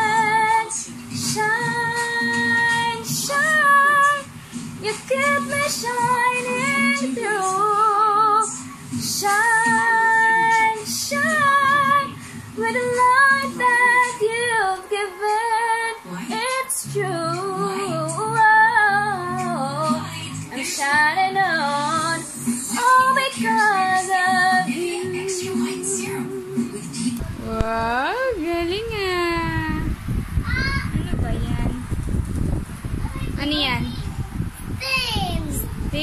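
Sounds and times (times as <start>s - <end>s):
woman singing: 0.0s - 29.9s.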